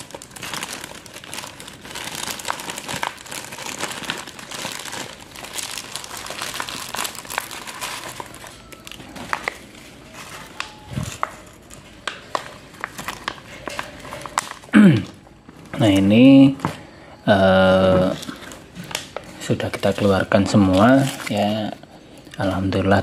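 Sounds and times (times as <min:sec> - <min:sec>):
plastic bag crinkling: 0:00.0 - 0:16.8, 0:17.4 - 0:22.6.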